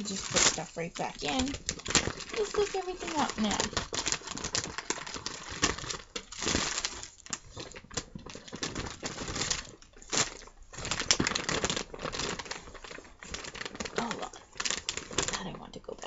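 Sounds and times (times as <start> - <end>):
plastic bags rustling: 0.0 - 16.0.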